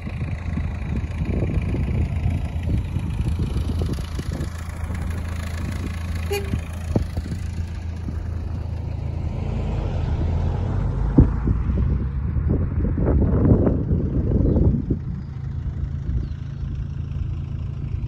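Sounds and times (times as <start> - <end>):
wind buffeting microphone: 0.0 - 9.2, 10.0 - 17.4
road rumble: 0.0 - 18.0
van engine hum: 0.0 - 18.0.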